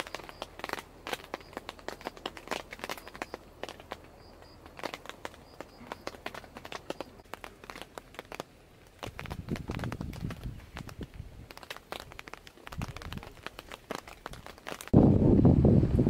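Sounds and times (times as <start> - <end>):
crinkling and rustling: 0.0 - 15.0.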